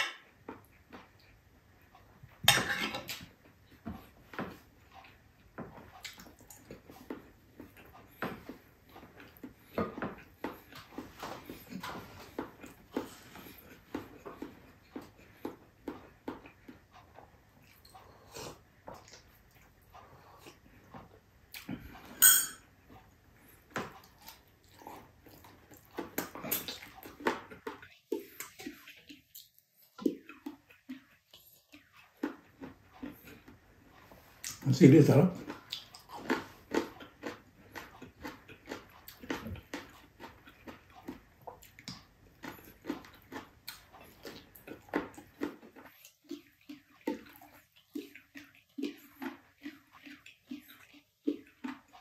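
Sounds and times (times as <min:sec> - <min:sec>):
chewing and mouth noises: 0:00.1 - 0:52.0.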